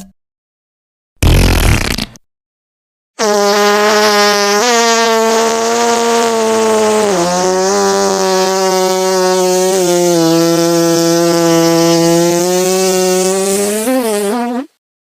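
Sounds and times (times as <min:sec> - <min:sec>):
fart sound effect: 0:01.2 - 0:02.2, 0:03.2 - 0:14.8.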